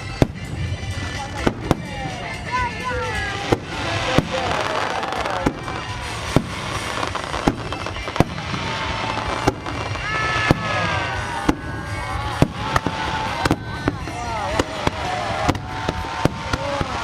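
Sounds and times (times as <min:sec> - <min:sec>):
fireworks bangs: 0:00.0 - 0:17.0
fireworks crackling: 0:00.0 - 0:17.0
music playing: 0:00.0 - 0:17.0.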